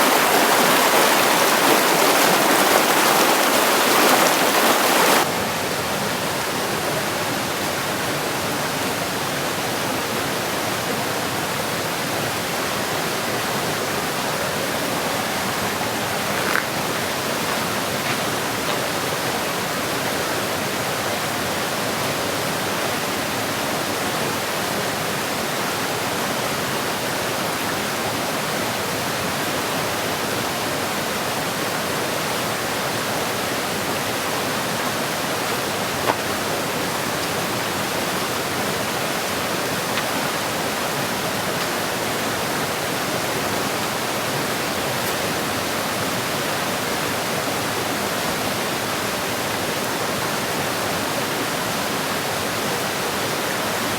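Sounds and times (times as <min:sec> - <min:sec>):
creek running over stones: 0:00.0 - 0:53.9.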